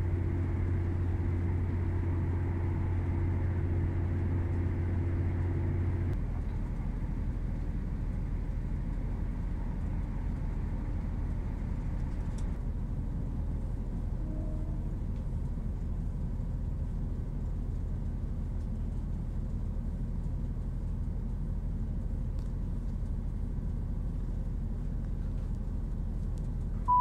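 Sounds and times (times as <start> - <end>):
train interior rumble: 0.0 - 27.0.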